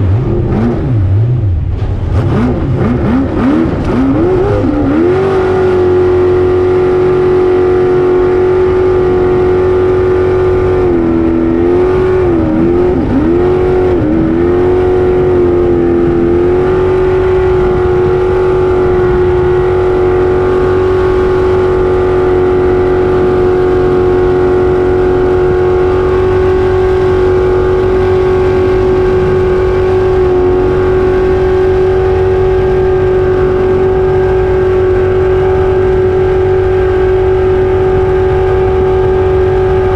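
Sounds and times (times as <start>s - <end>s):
jet boat engine at high revs: 0.0s - 39.9s.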